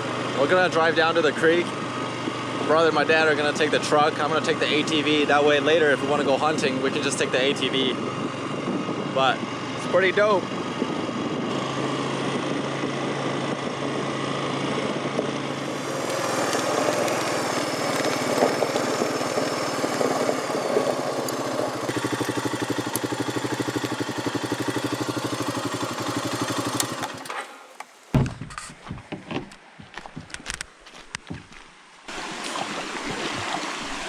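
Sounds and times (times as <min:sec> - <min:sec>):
atv engine running: 0:00.0 - 0:27.4.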